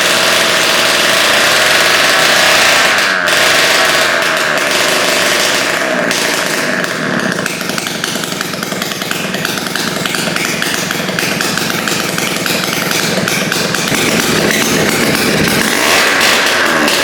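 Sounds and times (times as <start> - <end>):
two-stroke motorcycle engine running: 0.0 - 17.0.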